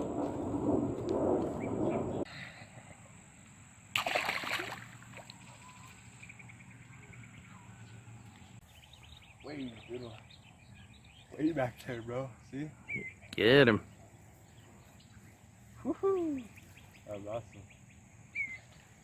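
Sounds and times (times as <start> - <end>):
insects buzzing and chirping: 0.0 - 19.0.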